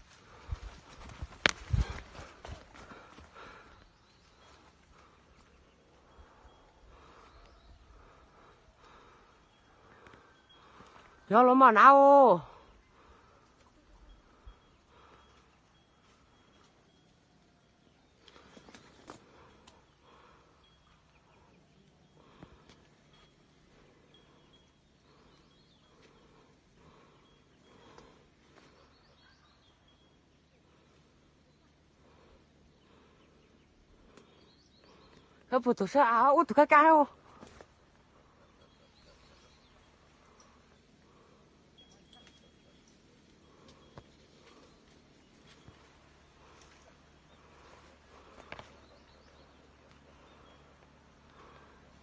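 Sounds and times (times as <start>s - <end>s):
faint forest ambience: 0.0s - 52.0s
faint bird chirps: 3.4s - 11.3s, 12.6s - 35.5s, 37.2s - 52.0s.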